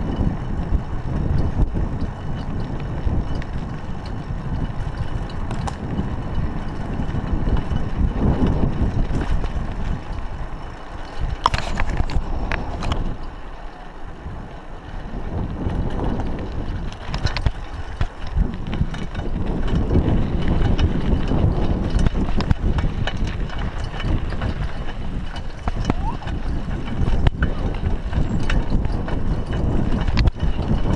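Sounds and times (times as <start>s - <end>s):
bike rattles and clicks: 0.0s - 30.9s
bike tyres rumbling: 0.0s - 30.9s
wind buffeting microphone: 0.0s - 30.9s.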